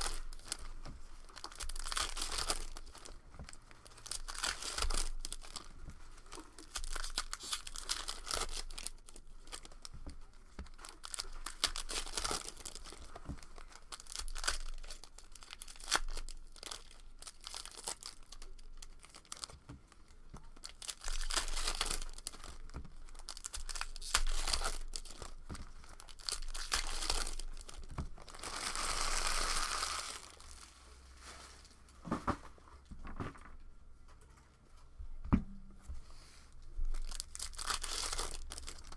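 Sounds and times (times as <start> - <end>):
foil wrappers tearing and crinkling: 0.0 - 31.1, 36.8 - 38.9.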